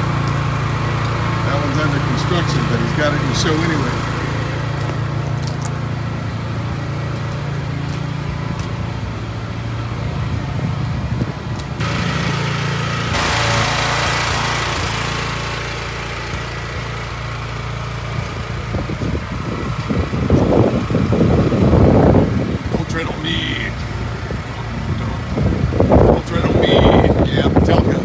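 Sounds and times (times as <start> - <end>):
fan rushing air: 0.0 - 28.0
low engine drone: 0.0 - 28.0.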